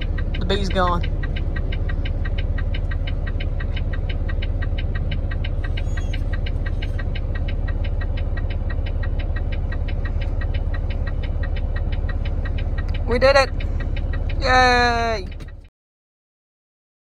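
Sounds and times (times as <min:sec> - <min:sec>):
quick even ticking: 0:00.0 - 0:15.7
truck engine idling: 0:00.0 - 0:15.7.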